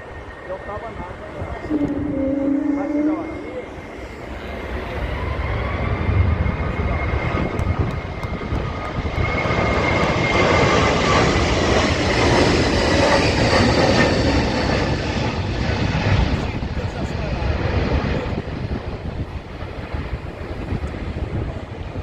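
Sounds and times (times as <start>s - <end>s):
jet engine rumble with whine: 0.0s - 22.0s.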